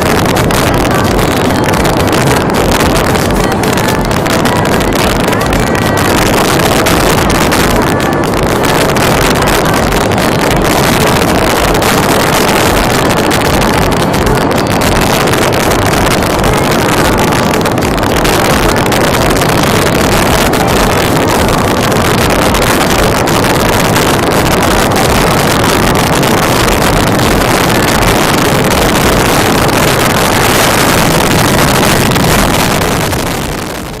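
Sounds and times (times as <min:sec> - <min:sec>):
road and vehicle noise: 0:00.0 - 0:34.0
wind buffeting microphone: 0:00.0 - 0:34.0.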